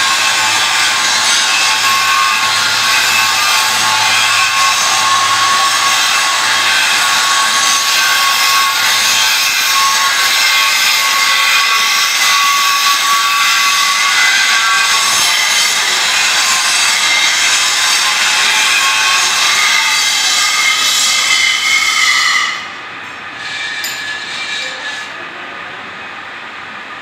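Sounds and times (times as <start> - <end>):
machine noise with high whine: 0.0 - 27.0.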